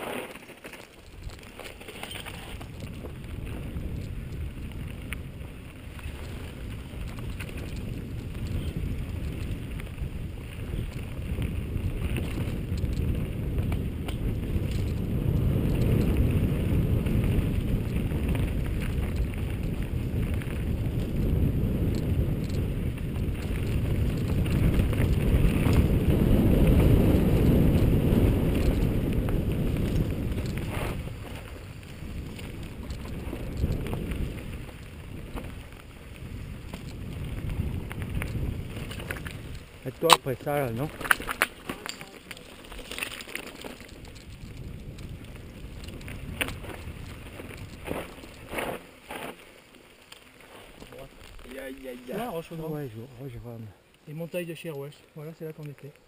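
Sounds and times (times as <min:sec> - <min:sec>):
bike tyres and frame rattling: 0:00.0 - 0:56.0
wind noise on microphone: 0:01.0 - 0:42.0, 0:42.6 - 0:49.4.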